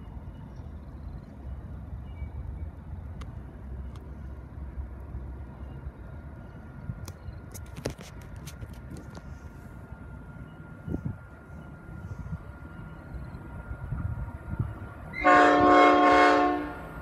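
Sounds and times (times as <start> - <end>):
distant train rumble: 0.0 - 17.0.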